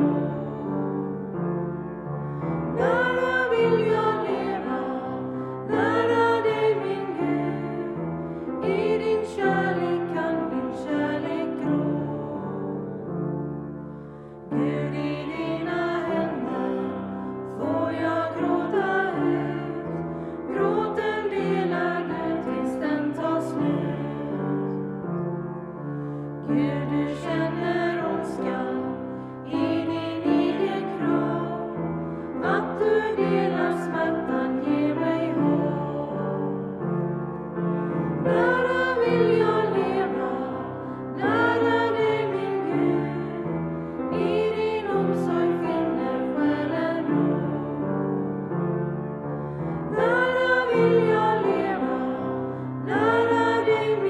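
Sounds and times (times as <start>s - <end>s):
people singing a hymn: 0.0s - 54.0s.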